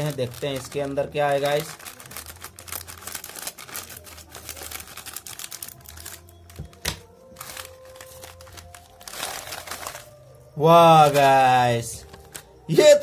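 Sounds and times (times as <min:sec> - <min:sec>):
foil snack packet crinkling: 0:00.0 - 0:12.8.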